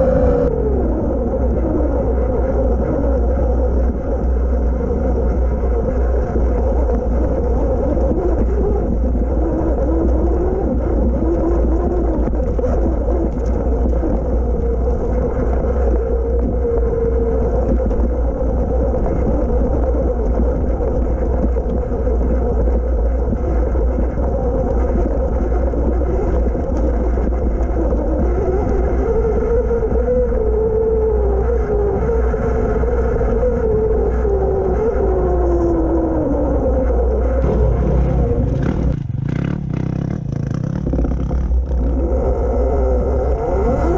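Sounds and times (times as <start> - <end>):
electric motor and chain whine: 0.0 - 43.9
wind rumble on microphone: 0.0 - 43.9.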